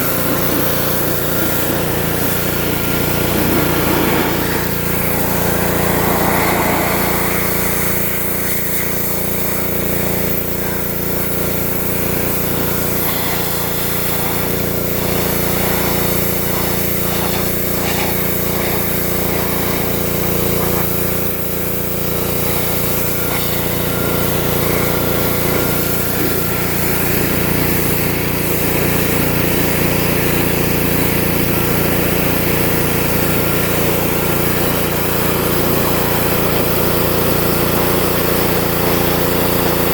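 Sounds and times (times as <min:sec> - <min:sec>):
high-pressure water spray hissing: 0:00.0 - 0:39.9
pressure washer engine droning: 0:00.0 - 0:39.9.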